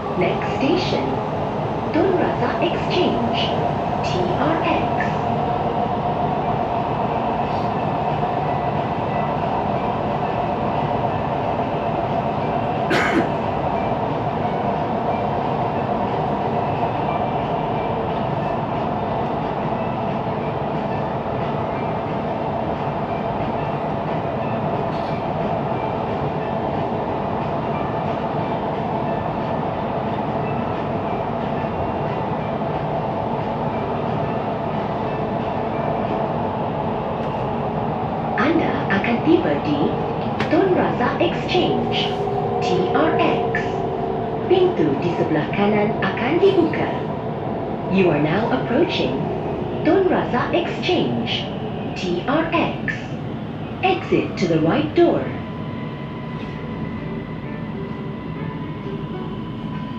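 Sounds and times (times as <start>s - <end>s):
train rolling noise with hum: 0.0s - 59.9s.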